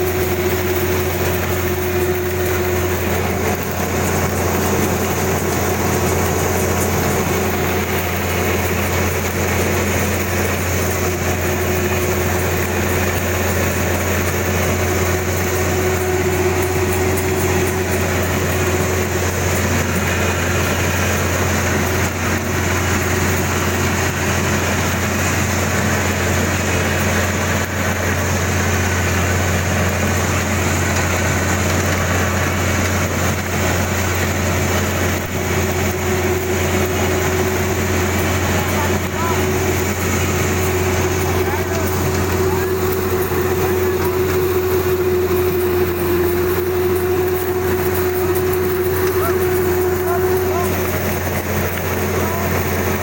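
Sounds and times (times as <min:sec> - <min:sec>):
harvester engine humming: 0:00.0 - 0:53.0.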